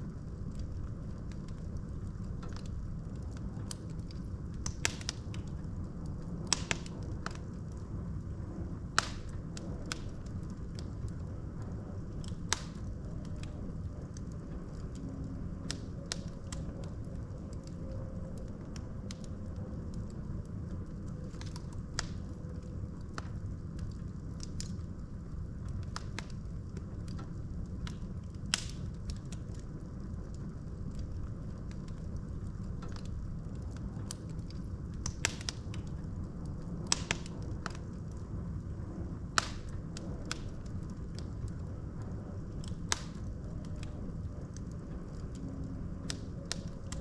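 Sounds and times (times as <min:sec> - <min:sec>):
log fire rumbling: 0:00.0 - 0:47.0
wood crackling and popping: 0:00.0 - 0:47.0.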